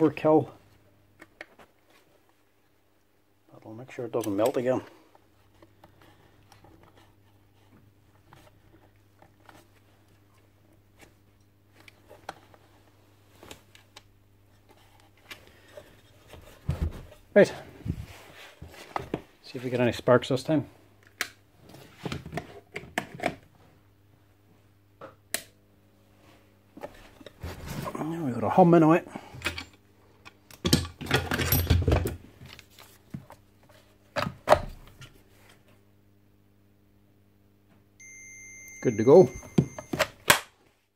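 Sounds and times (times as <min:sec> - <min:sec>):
faint mains hum: 0:00.0 - 0:40.9.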